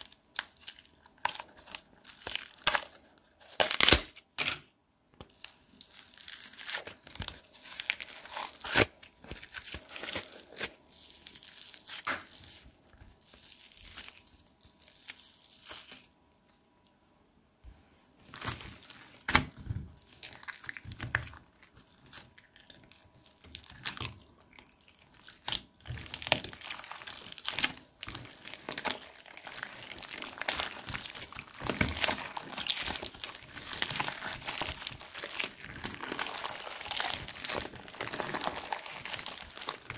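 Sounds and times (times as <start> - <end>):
slime crackling and crunching: 0.0 - 4.2, 5.2 - 16.5, 18.2 - 39.9.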